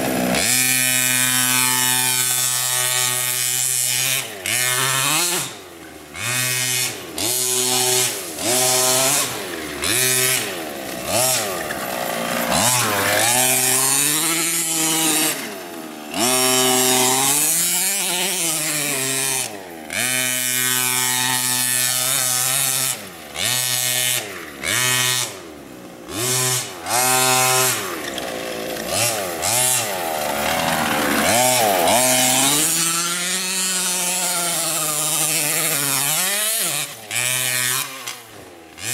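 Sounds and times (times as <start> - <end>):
small two-stroke engine revving: 0.0 - 38.9.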